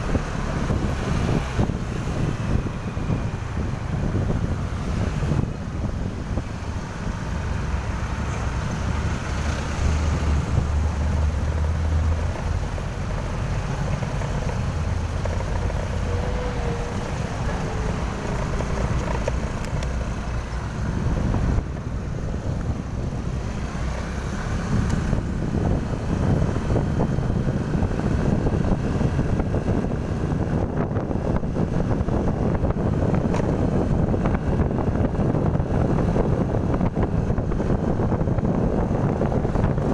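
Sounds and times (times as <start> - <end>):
vehicle engine and traffic rumble: 0.0 - 39.9
wind buffeting microphone: 0.0 - 39.9.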